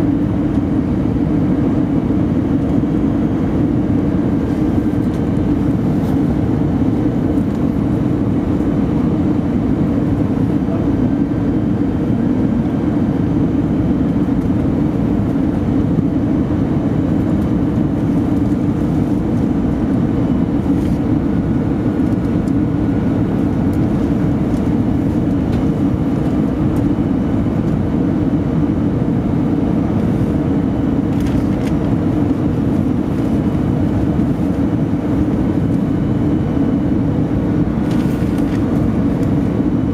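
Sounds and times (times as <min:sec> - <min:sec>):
faint steady whines: 0:00.0 - 0:39.9
jet engine cabin drone: 0:00.0 - 0:39.9.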